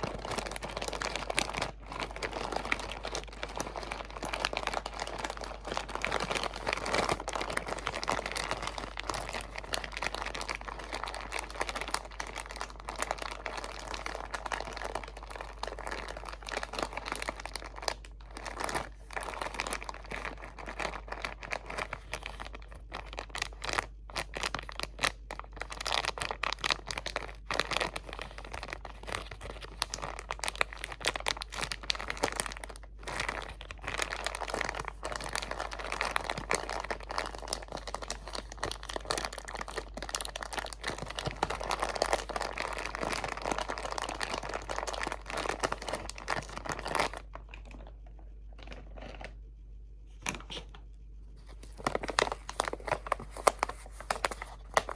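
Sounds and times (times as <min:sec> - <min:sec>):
crinkly material crackling: 0:00.0 - 0:54.9.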